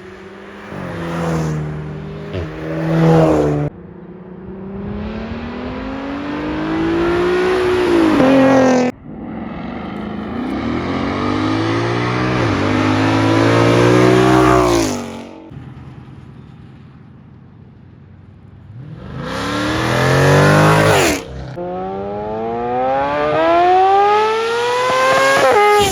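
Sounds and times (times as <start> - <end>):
engines accelerating hard: 0.0 - 16.7, 18.6 - 25.9.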